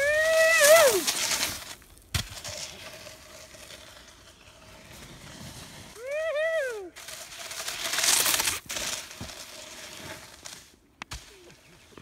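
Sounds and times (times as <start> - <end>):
snowboard scraping over hailstones: 0.0 - 12.0.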